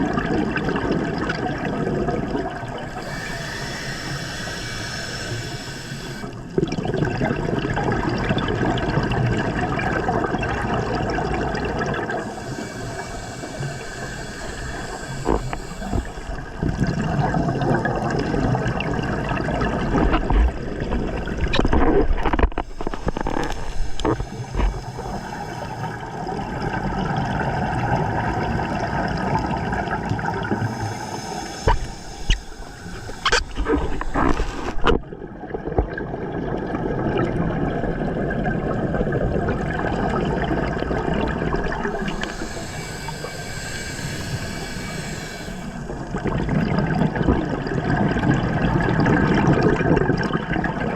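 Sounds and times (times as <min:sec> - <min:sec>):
rushing bubbles from exhaled air: 0:00.0 - 0:50.9.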